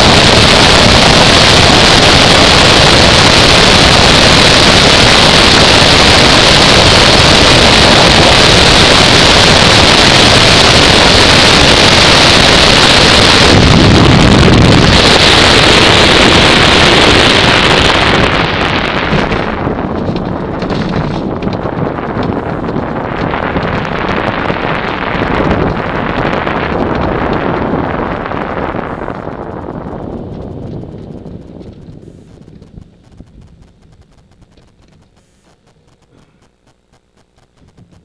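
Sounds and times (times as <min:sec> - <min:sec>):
wind buffeting microphone: 0:00.0 - 0:35.2
low rumble: 0:00.0 - 0:38.0.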